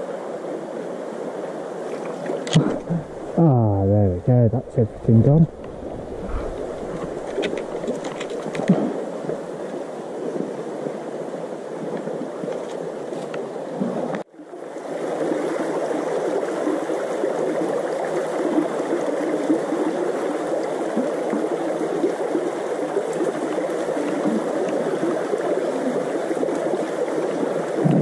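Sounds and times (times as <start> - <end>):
river water babbling over rocks: 0.0 - 28.0.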